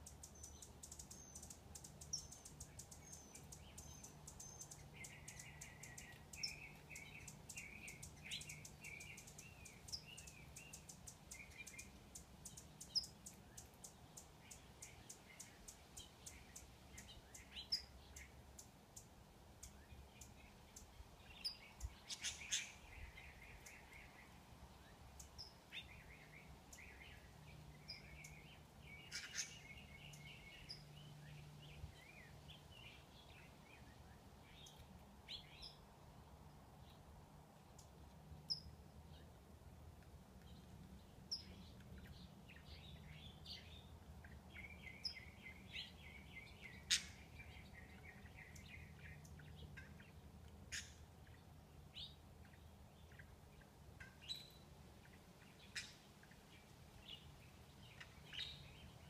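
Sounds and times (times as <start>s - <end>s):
faint bird chirps: 0.0s - 35.8s, 40.4s - 59.0s.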